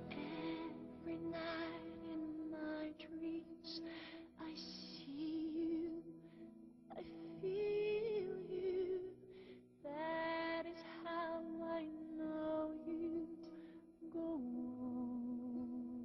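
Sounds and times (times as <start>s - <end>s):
slow background music: 0.0s - 16.0s.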